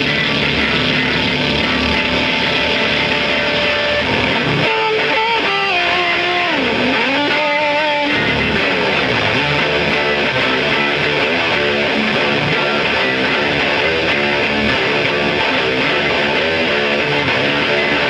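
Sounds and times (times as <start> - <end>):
bending guitar note: 0.0 - 18.0
distorted guitar noise music: 0.0 - 18.0.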